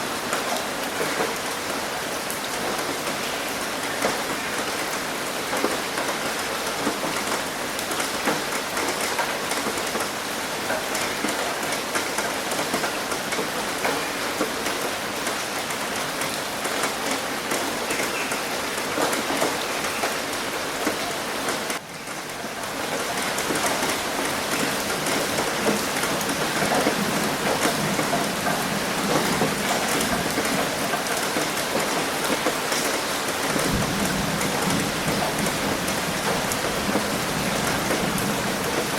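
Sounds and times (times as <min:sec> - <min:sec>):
rain pattering on a roof: 0:00.0 - 0:38.9.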